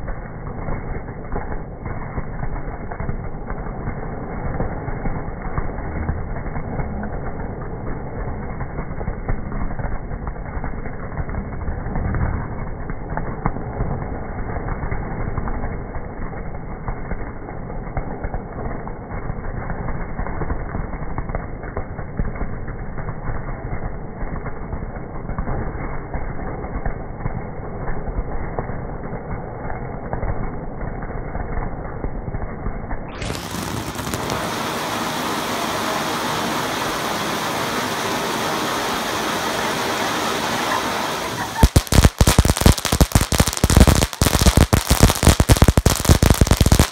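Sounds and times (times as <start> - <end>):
fireworks crackling: 0.0 - 46.9.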